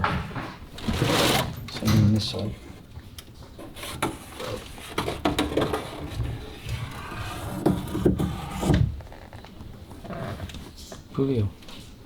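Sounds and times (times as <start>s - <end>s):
knocks and clunks of handling: 0.0s - 10.7s.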